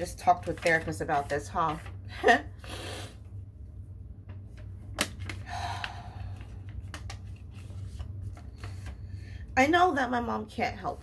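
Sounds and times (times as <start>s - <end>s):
steady low hum: 1.0s - 11.0s.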